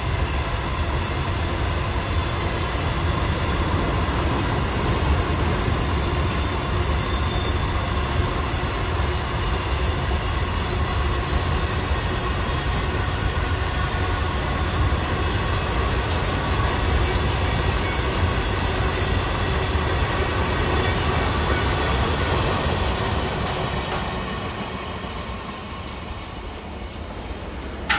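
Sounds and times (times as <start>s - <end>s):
freight train wagons rolling past: 1.8s - 27.9s.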